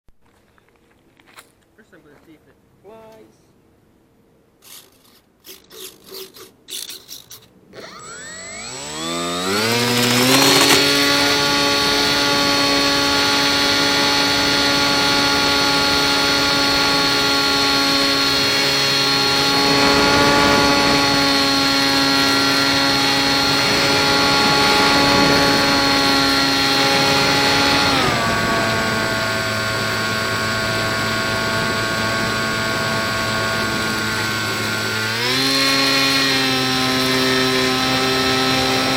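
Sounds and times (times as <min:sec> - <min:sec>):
model plane electric motor whine: 0:04.6 - 0:38.9.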